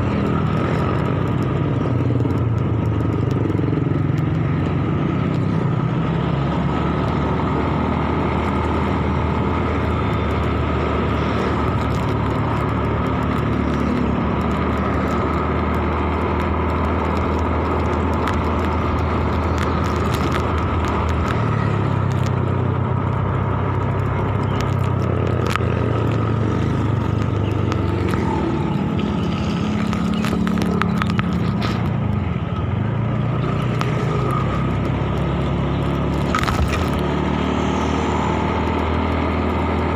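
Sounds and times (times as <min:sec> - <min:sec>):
passing motorbikes and cars: 0:00.0 - 0:39.9
small motorcycle engine running: 0:00.0 - 0:39.9
wind and road noise: 0:00.0 - 0:39.9.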